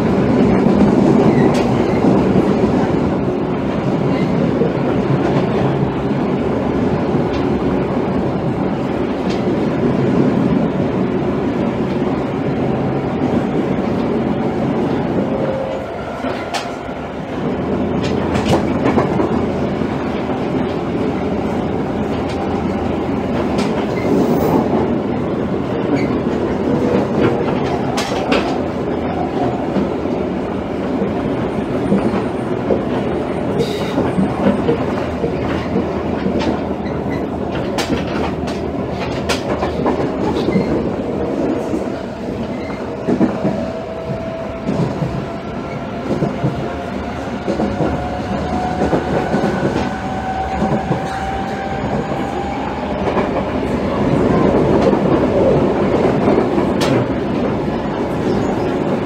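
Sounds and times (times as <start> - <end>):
train wheels rumbling on rail: 0.0 - 59.0
rail joint clicks: 0.1 - 59.0.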